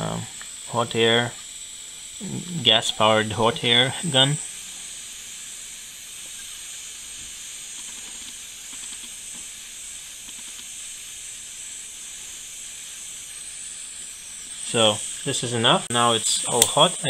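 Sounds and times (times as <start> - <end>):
hot air gun hissing: 0.0 - 17.0.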